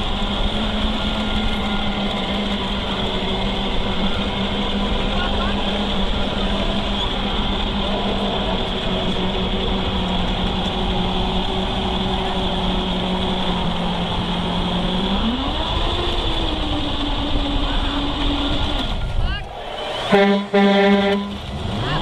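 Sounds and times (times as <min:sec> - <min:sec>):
toy truck motor hum: 0:00.0 - 0:19.0
wheels rumbling and rolling: 0:00.0 - 0:22.0.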